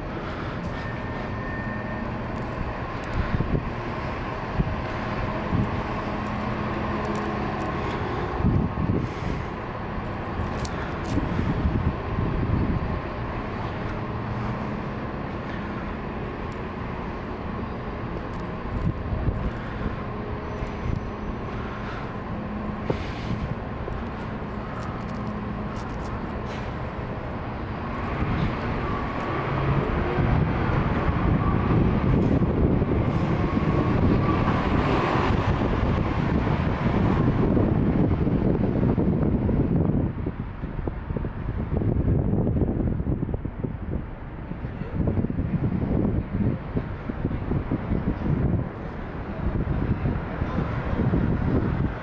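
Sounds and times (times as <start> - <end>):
vehicle traffic: 0.0 - 52.0.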